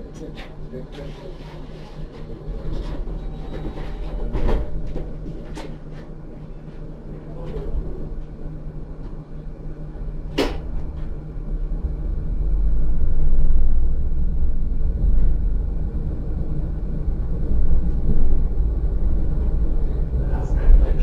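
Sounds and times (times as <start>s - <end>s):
tram running noise from inside: 0.0s - 21.0s.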